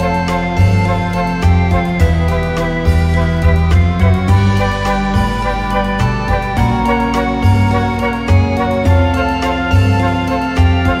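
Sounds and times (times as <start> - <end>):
repeating low bass line: 0.0 - 11.0
sustained pitched notes: 0.0 - 11.0.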